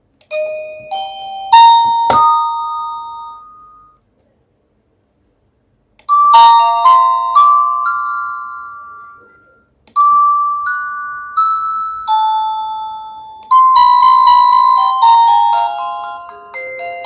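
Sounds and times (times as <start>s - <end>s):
doorbell electronic chime tunes: 0.3s - 4.0s, 6.1s - 17.0s.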